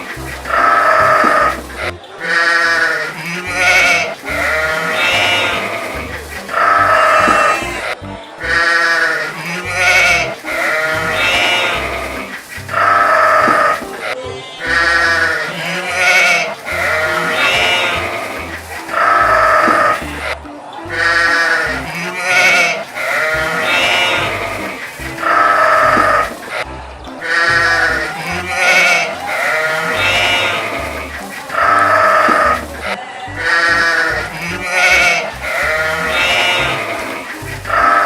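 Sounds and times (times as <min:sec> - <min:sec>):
farm animal bleating: 0:02.2 - 0:20.3, 0:20.9 - 0:26.3, 0:27.2 - 0:38.0.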